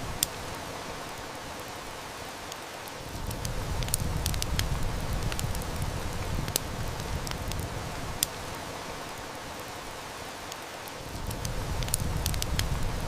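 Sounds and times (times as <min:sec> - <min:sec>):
heavy rain hissing: 0:00.0 - 0:13.0
wood fire crackling and snapping: 0:00.0 - 0:13.0.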